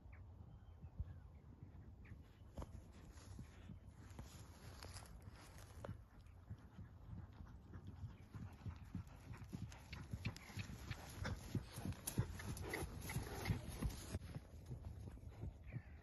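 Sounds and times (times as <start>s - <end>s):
horses cantering on grass: 2.3s - 16.0s.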